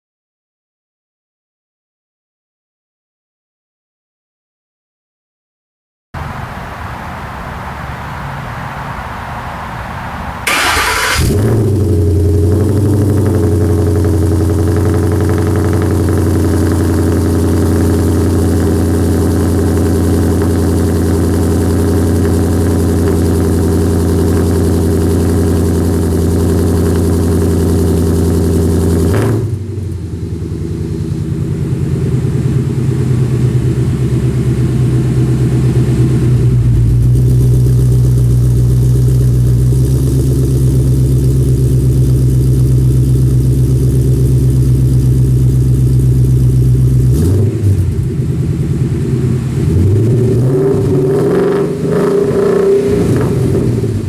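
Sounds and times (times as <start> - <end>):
car engine idling: 6.2 - 54.0.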